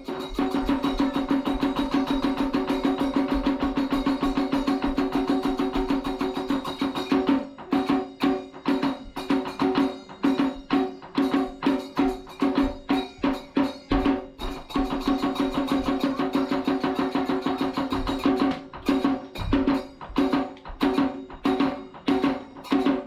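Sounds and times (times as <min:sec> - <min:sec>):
drum beating: 0:00.0 - 0:23.0.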